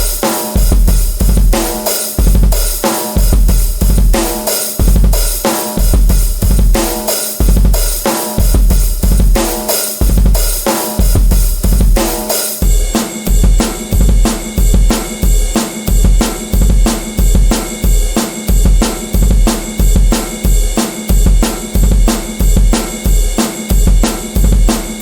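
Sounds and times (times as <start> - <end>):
drum kit playing beat: 0.0 - 25.0.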